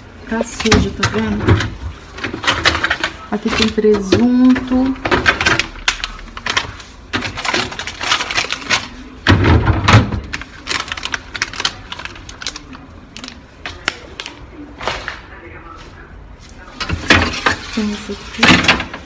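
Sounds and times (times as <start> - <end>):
plastic containers clicking and rustling: 0.3 - 15.2, 16.8 - 19.0.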